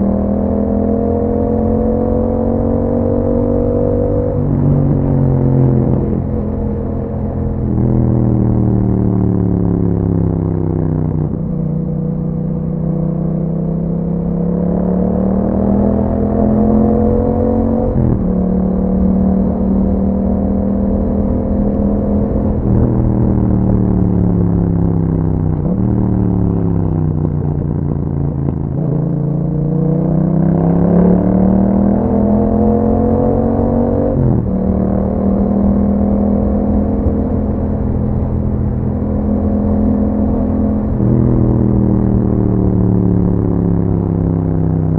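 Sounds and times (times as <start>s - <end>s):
motorcycle engine under throttle: 0.0s - 44.9s.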